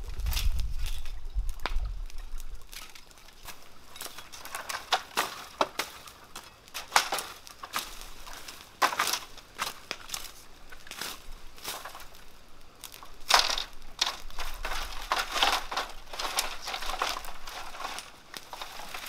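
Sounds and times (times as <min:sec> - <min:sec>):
plants rustling and snapping: 0:00.0 - 0:19.0.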